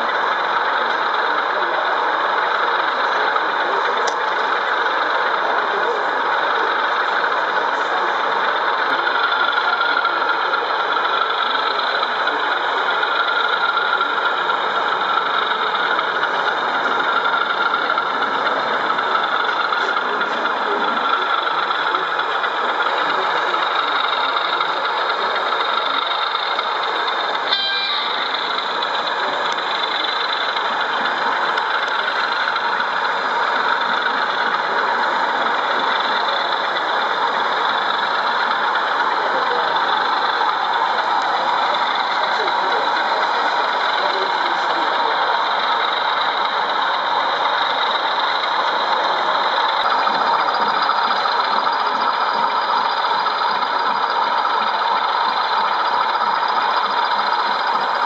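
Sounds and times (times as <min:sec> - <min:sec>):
exhibition hall hubbub: 0:00.0 - 0:58.0
model locomotive diesel engine sound: 0:00.0 - 0:58.0.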